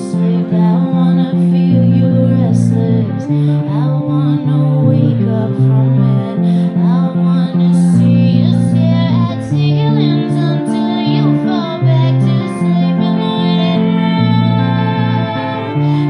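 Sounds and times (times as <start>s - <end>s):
strummed electric guitar: 0.0s - 16.0s
woman singing: 0.0s - 16.0s.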